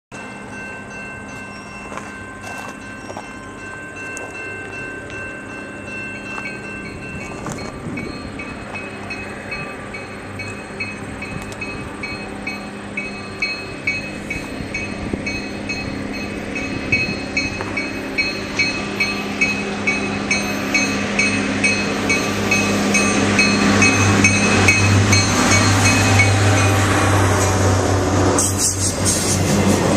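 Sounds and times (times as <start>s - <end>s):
railroad crossing bell ringing: 0.1s - 29.7s
diesel train engines: 0.1s - 29.9s.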